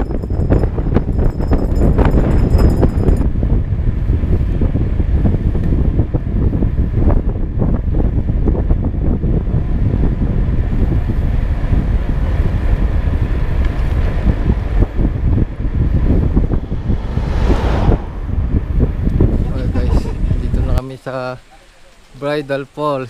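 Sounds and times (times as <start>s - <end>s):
wind buffeting microphone: 0.0s - 20.8s.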